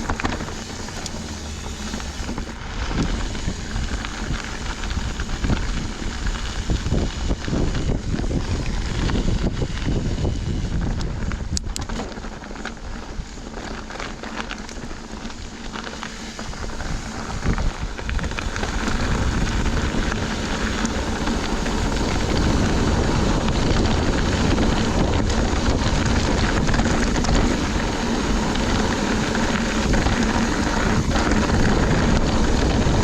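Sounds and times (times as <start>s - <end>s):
bike rattling and knocking: 0.0s - 33.0s
bike tyres rolling on dirt: 0.0s - 33.0s
wind buffeting microphone: 0.0s - 33.0s.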